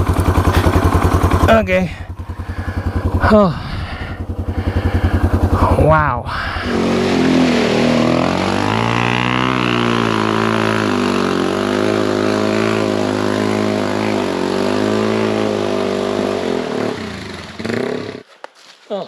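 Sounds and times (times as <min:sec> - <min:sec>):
motorcycle engine at high revs: 0:00.0 - 0:18.3.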